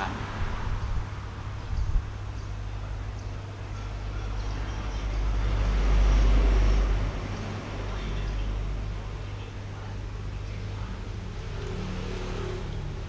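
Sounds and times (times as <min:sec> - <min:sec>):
road traffic rumble: 0:00.0 - 0:13.0
vehicle passing: 0:00.0 - 0:13.0.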